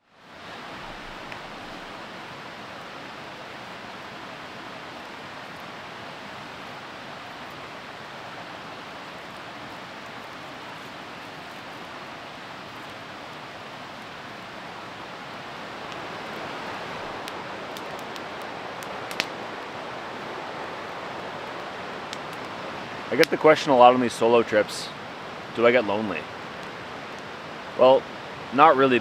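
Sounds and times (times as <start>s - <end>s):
river rapids roaring: 0.2s - 29.0s.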